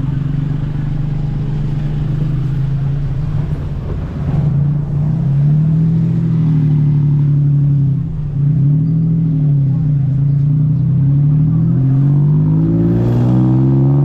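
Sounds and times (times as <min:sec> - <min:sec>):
motor rickshaw engine humming: 0:00.0 - 0:14.0.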